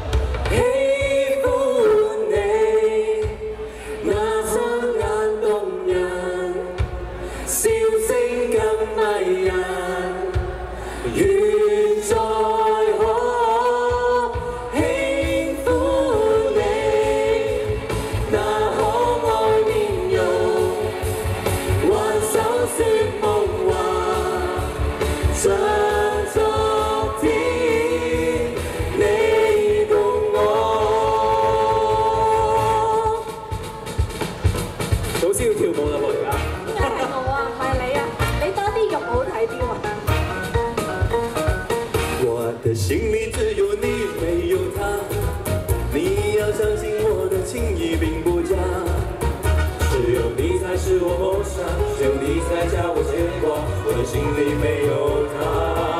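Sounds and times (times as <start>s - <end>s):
men and woman singing: 0.0s - 34.2s, 42.3s - 55.9s
amplified backing music: 0.0s - 55.9s.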